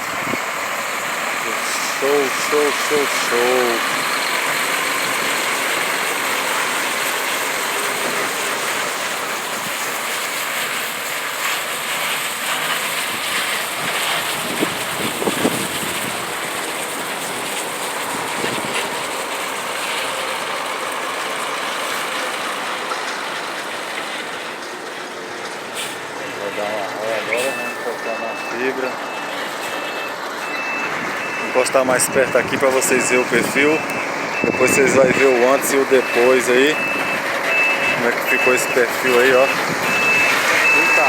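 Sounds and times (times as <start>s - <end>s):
truck running: 0.0s - 41.0s.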